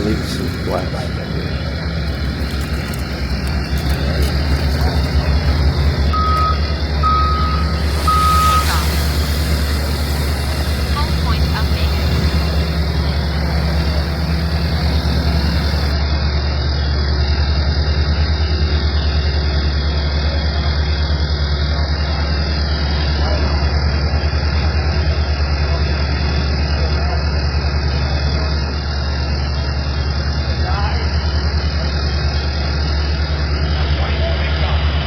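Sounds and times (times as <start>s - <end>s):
engine droning steadily: 0.0s - 35.0s.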